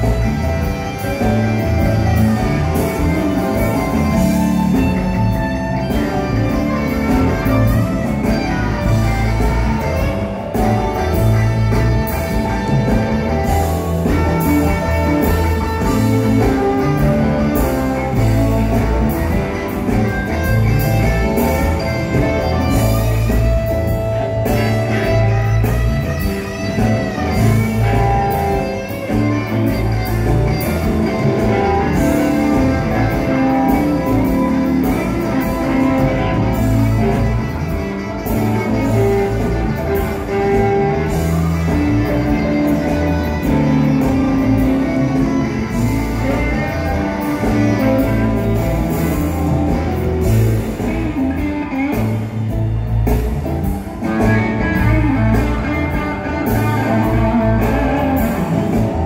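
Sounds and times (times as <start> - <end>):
bass guitar: 0.0 - 59.0
drum kit: 0.0 - 59.0
electric guitar lead lines: 0.0 - 59.0.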